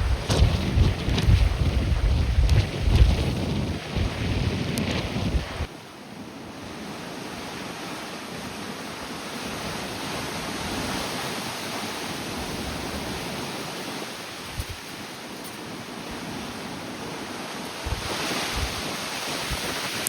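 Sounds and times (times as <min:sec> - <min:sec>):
wind buffeting on microphone: 0:00.0 - 0:05.7, 0:09.4 - 0:20.0
surf: 0:00.0 - 0:05.9, 0:06.5 - 0:20.0
storm wind: 0:00.0 - 0:20.0.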